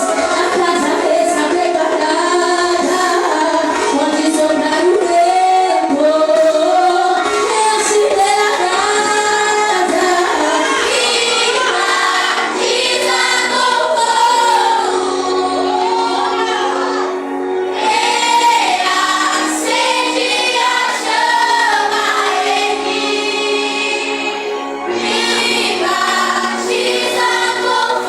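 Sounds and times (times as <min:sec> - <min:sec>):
group singing worship song: 0:00.0 - 0:28.0
musical accompaniment: 0:00.0 - 0:28.0.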